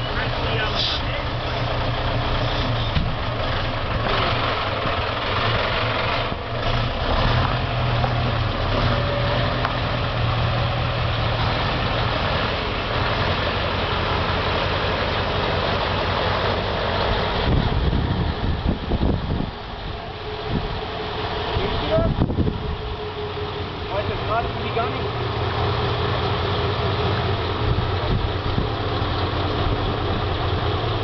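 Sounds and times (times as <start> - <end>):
diesel truck engine running: 0.0 - 31.0.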